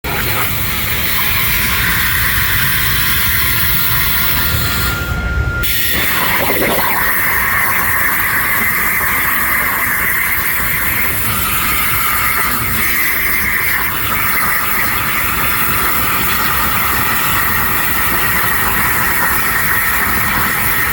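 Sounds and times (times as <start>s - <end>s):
plasma torch hissing: 0.1s - 20.9s
thin steady tone: 0.8s - 20.9s.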